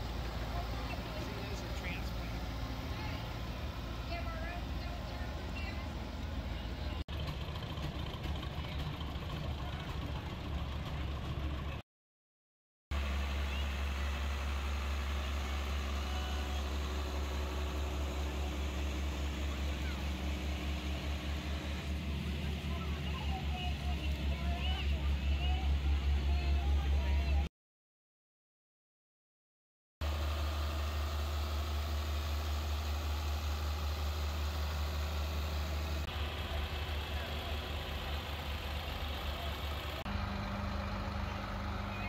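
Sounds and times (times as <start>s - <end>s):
tractor diesel engine rumbling: 0.0s - 11.8s, 13.0s - 27.5s, 30.0s - 42.0s.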